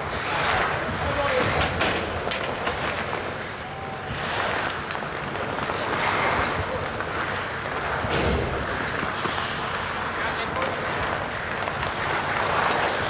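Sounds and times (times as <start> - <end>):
skates scraping ice: 0.0 - 13.0.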